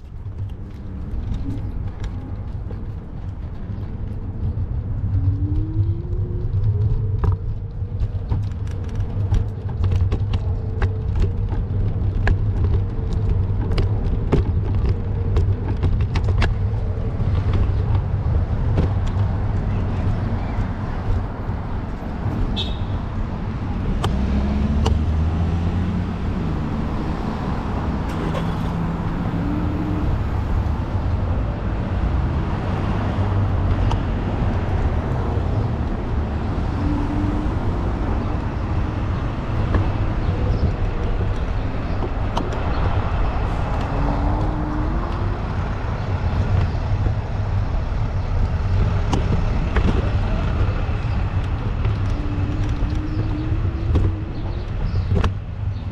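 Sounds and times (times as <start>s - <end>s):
street traffic going by: 0.0s - 55.9s
wind rumble on microphone: 0.0s - 55.9s.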